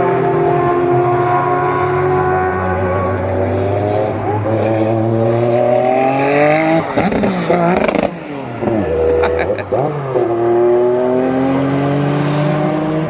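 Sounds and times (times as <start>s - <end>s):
racing car engine revving: 0.0s - 13.0s.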